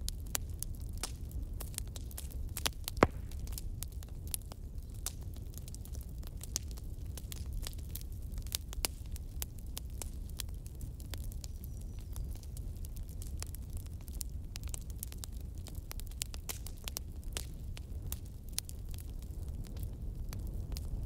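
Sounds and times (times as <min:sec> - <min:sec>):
fire popping: 0:00.0 - 0:21.0
wood fire crackling: 0:00.0 - 0:21.0.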